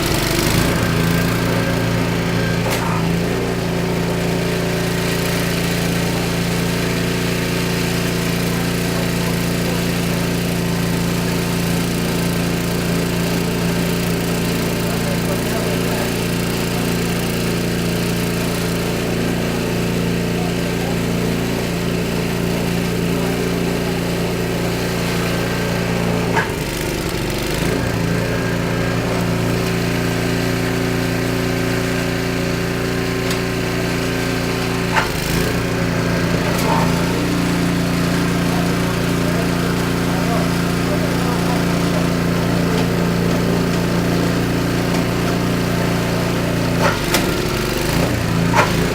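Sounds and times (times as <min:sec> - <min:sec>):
snowblower engine running: 0:00.0 - 0:48.9.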